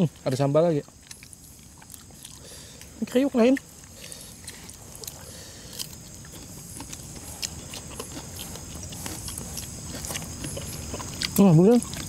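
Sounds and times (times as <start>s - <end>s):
people chewing crispy food: 0.0s - 12.0s.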